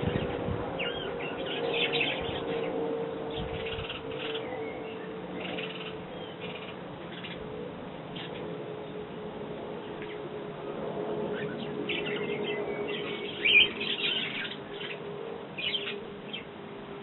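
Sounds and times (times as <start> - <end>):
sparrows chirping: 0.0 - 9.1, 9.8 - 10.3, 11.2 - 16.6.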